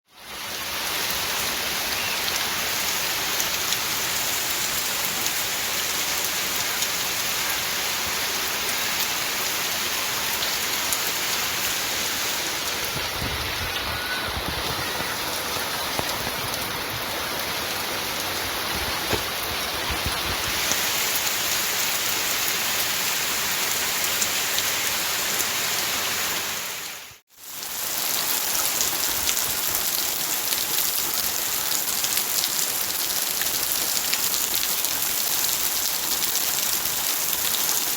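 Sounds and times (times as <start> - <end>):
heavy rain falling: 0.2 - 37.9.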